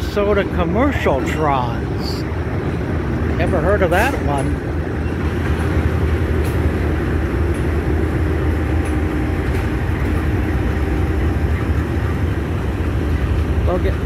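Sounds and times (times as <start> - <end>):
diesel locomotive engines running: 0.0 - 14.0.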